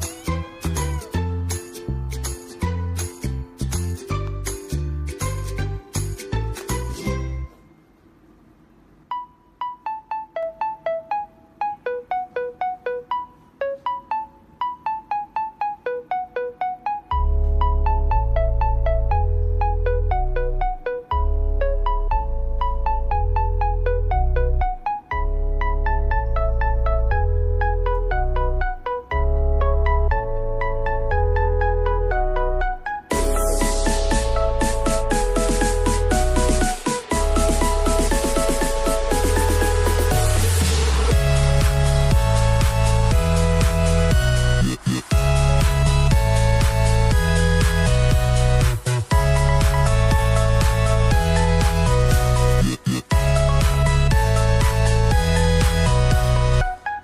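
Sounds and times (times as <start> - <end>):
electronic music with beat: 0.0 - 7.6, 9.1 - 57.0.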